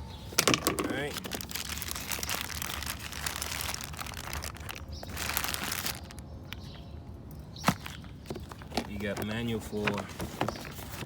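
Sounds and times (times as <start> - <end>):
packaging and papers crinkling: 0.3 - 6.3, 7.6 - 11.0.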